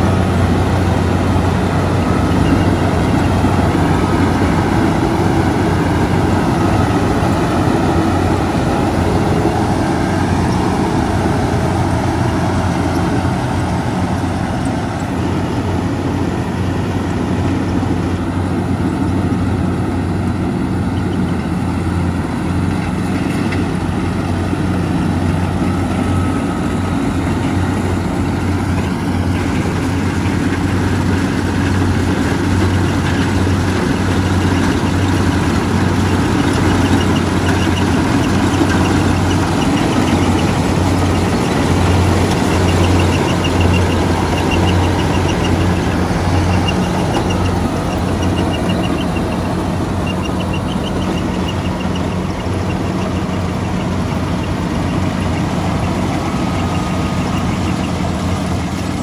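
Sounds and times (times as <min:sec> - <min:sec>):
combine harvester droning: 0:00.0 - 0:59.0.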